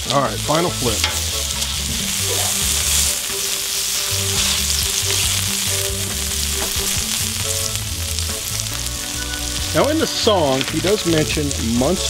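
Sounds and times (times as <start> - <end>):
burgers sizzling on griddle: 0.0 - 12.0.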